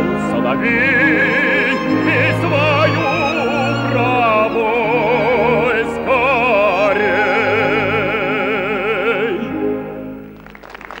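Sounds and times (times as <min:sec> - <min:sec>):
man singing with vibrato: 0:00.0 - 0:10.1
orchestra: 0:00.0 - 0:11.0.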